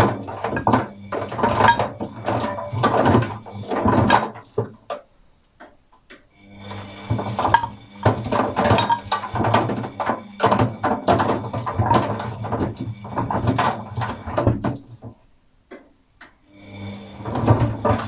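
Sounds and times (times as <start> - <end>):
knocks and clatters in drum: 0.0 - 5.8, 7.0 - 15.2, 17.2 - 18.0
washing machine motor hum: 0.0 - 18.0.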